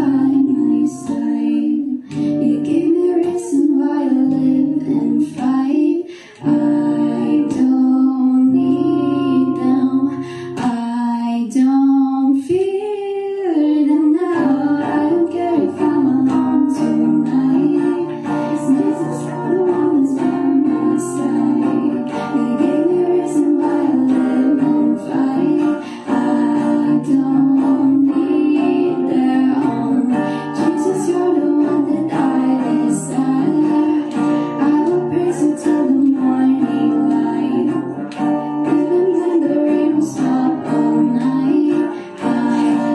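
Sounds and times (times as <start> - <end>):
guitar accompaniment: 0.0 - 42.9
person singing: 0.0 - 42.9.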